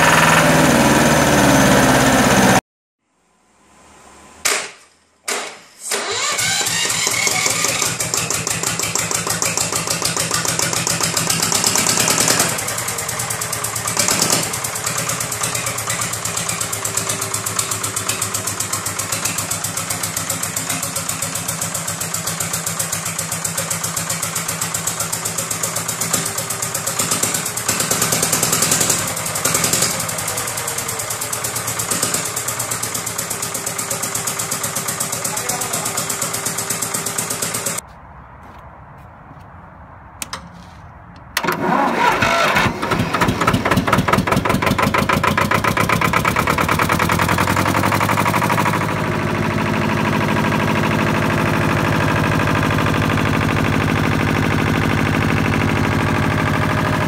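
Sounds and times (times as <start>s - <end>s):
diesel engine running: 0.0s - 2.6s, 5.8s - 37.8s, 40.2s - 57.0s.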